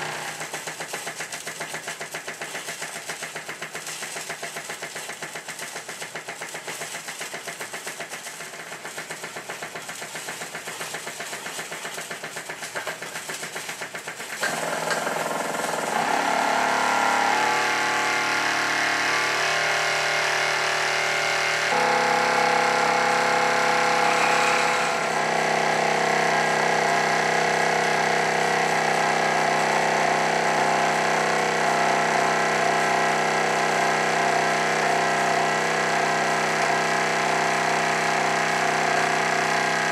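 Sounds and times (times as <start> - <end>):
model steam engine exhaust beat: 0.0 - 39.9.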